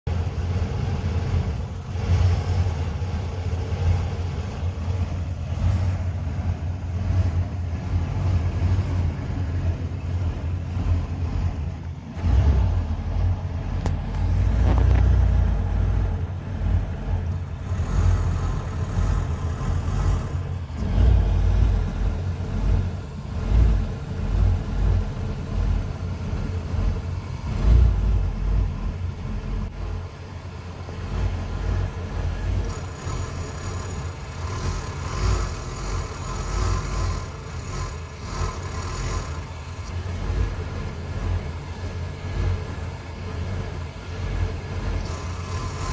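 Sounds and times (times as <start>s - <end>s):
van engine idling roughly: 0.0s - 45.9s.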